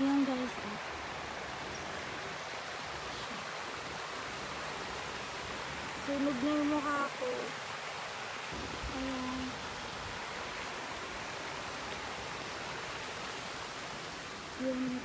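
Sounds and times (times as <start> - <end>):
fountain jets splashing into pond: 0.0 - 15.0.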